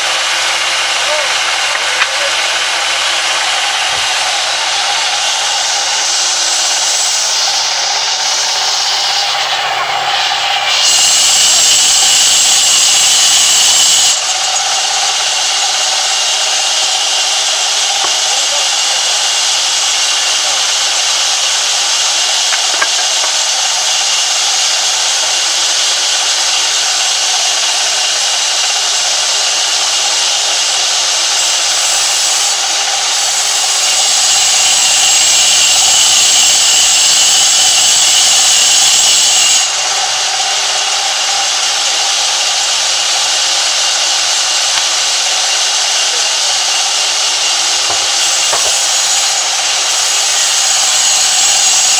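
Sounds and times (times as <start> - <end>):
band saw cutting a log: 0.0 - 51.9.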